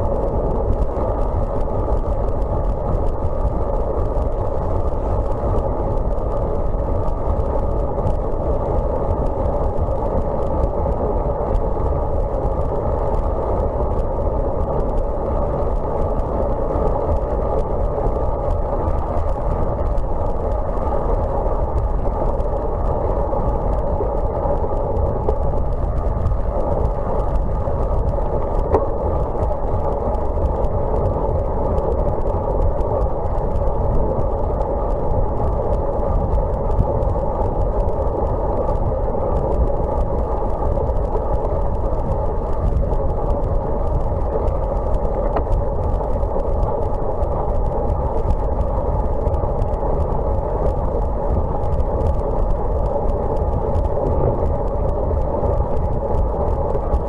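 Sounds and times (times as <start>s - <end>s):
muffled wind rush: 0.0s - 57.0s.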